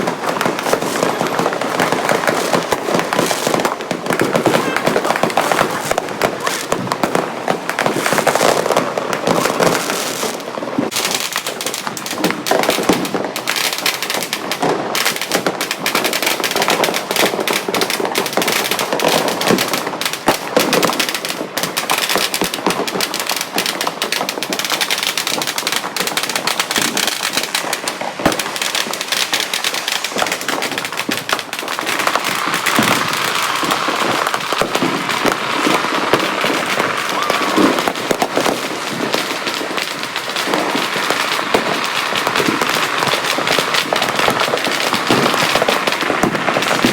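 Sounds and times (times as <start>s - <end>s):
firecrackers and fireworks popping: 0.0s - 46.9s.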